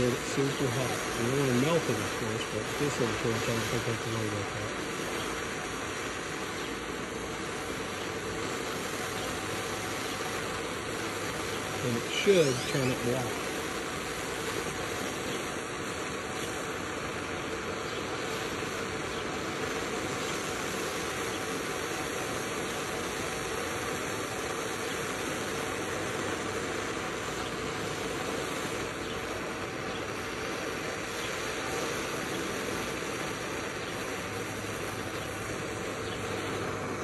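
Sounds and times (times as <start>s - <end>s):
propane torch hissing: 0.0s - 37.0s.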